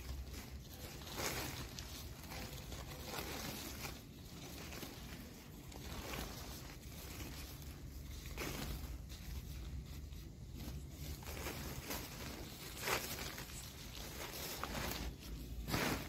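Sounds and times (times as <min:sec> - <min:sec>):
plastic sacks rustling: 0:00.0 - 0:16.0.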